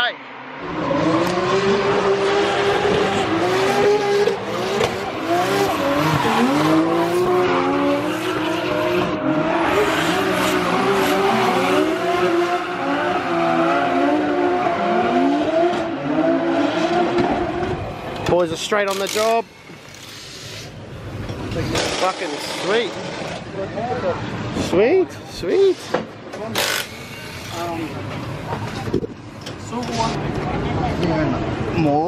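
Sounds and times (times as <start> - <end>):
car engines revving: 0.0 - 31.8.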